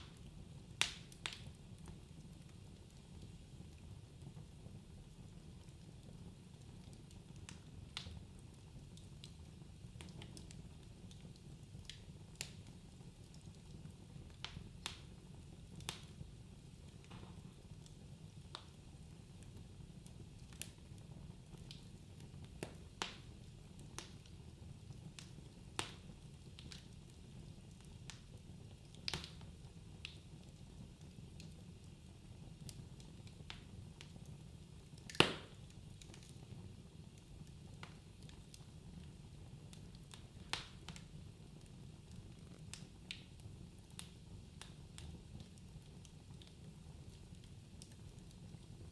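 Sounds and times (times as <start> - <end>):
low fire rumble: 0.0 - 48.9
wood fire crackling: 0.0 - 48.9.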